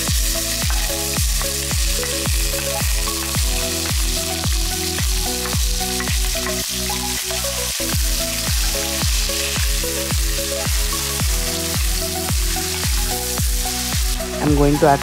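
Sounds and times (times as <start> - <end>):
background music with thumping beat: 0.0 - 15.0
onions sizzling in oil: 0.0 - 15.0.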